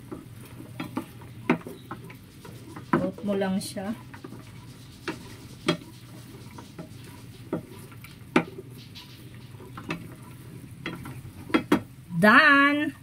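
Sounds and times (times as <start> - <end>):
spatula knocking against a pan: 0.0 - 3.3, 4.1 - 10.2, 10.8 - 12.0
spatula stirring food in a pan: 0.0 - 12.7.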